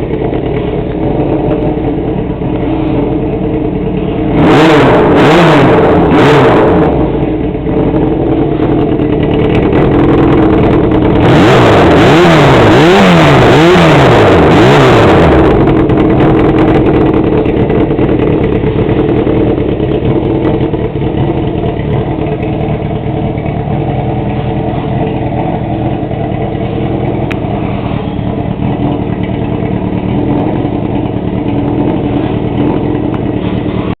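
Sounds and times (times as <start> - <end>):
motorcycle engine idling: 0.0 - 5.1, 6.7 - 11.5, 15.1 - 34.0
motorcycle engine revving: 0.0 - 34.0.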